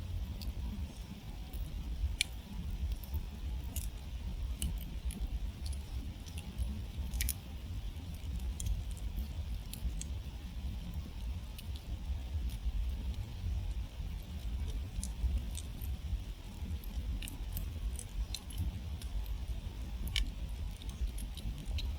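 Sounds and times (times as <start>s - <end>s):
campfire crackling: 0.0s - 21.9s
steady low rumble: 0.0s - 21.9s.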